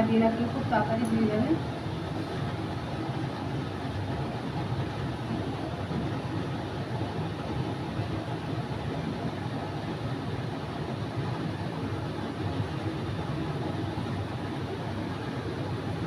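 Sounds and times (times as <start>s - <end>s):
low rumbling from stove: 0.0s - 16.0s.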